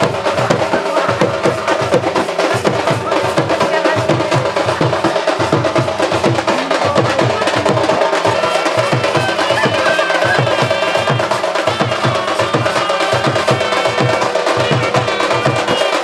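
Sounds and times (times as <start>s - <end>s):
fast busy drumming: 0.0s - 16.0s.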